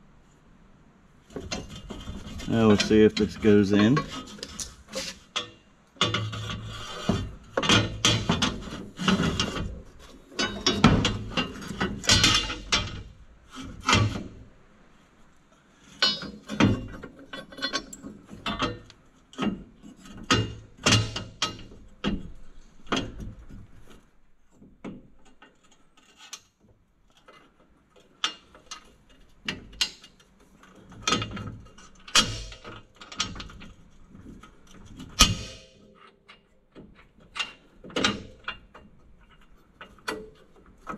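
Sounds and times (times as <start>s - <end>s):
metal bracket clanking and scraping: 1.3s - 14.4s, 15.8s - 24.0s, 27.1s - 40.9s.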